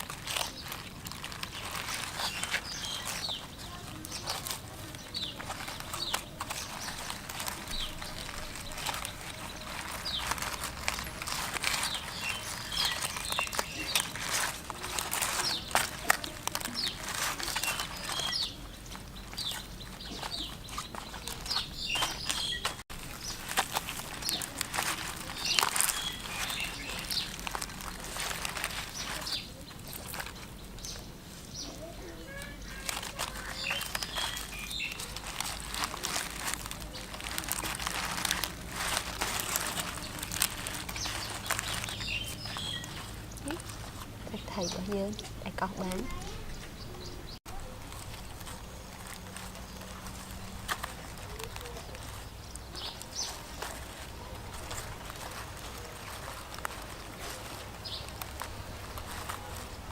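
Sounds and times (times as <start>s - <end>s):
clicks and scraping of food preparation: 0.0s - 59.9s
small birds chirping: 0.0s - 59.9s.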